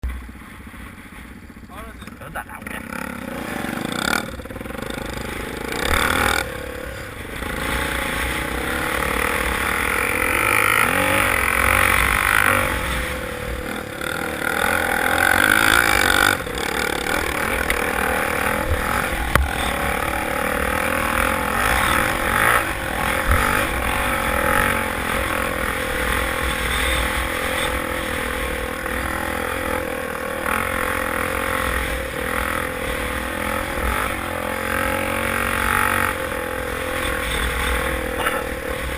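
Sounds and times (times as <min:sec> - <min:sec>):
motorcycle engines running: 0:00.0 - 0:38.9.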